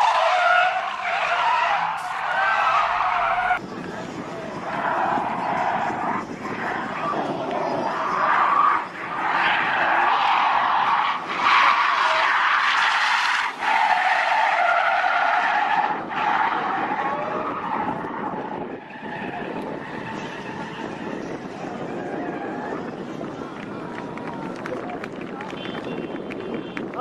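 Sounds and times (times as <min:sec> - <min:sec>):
car engine: 0:00.0 - 0:25.7
car tyres squealing: 0:00.0 - 0:26.2.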